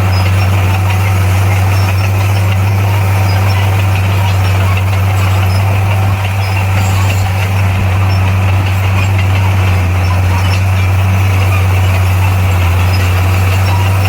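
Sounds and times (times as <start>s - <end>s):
bulldozer diesel engine drone: 0.0s - 14.0s.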